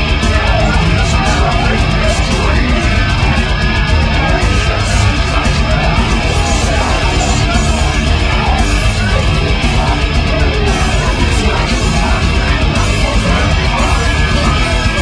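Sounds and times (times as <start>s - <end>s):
heavy rock music with electric guitar: 0.0s - 15.0s.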